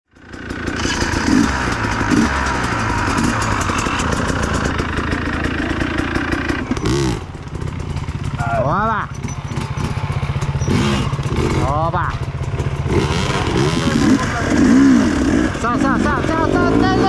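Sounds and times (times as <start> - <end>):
dirt bike engine running: 0.1 - 17.0.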